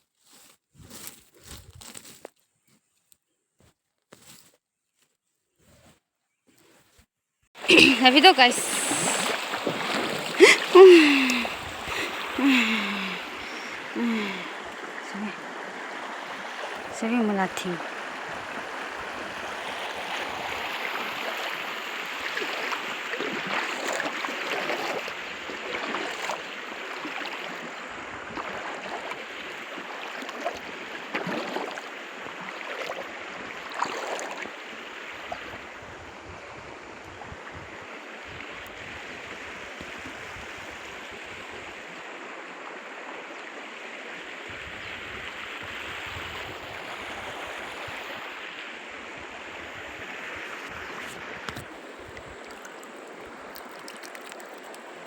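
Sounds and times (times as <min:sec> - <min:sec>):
water splashes: 0:07.6 - 0:37.6, 0:38.2 - 0:55.0
stream flowing: 0:07.6 - 0:55.0.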